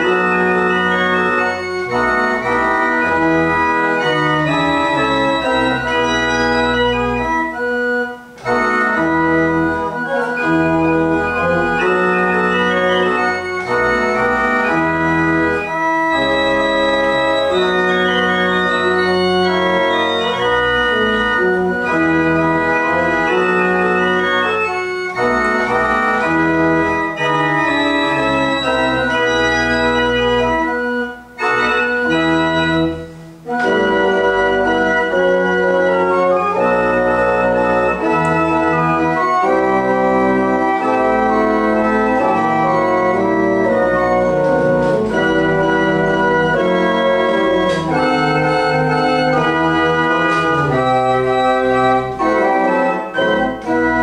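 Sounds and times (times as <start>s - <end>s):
pipe organ playing a minuet: 0.0s - 54.0s.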